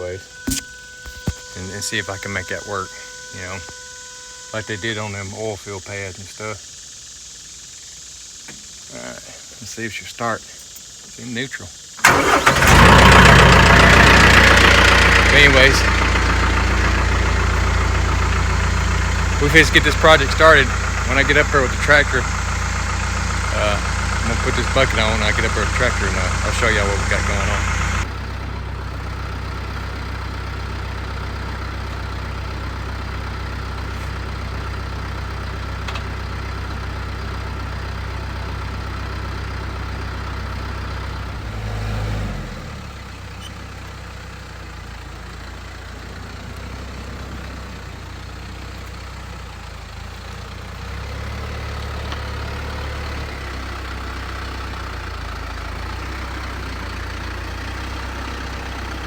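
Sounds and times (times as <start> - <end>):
tractor engine idling: 0.0 - 41.7, 42.7 - 59.0.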